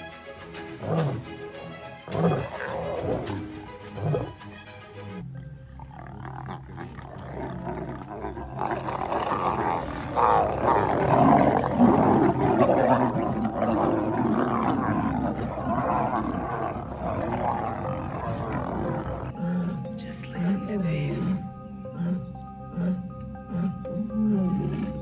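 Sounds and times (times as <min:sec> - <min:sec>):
lions snarling and roaring: 0:00.6 - 0:04.6, 0:05.2 - 0:25.0.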